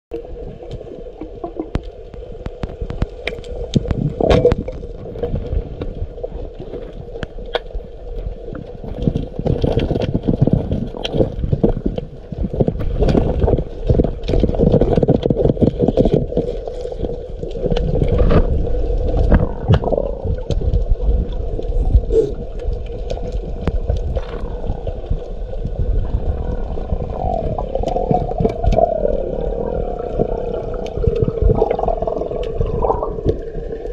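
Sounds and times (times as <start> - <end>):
water rushing and gurgling: 0.1 - 33.9.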